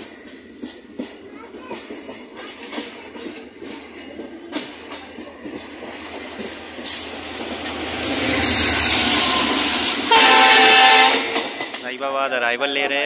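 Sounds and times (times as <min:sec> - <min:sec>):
diesel locomotive engine drone: 0:02.0 - 0:13.0.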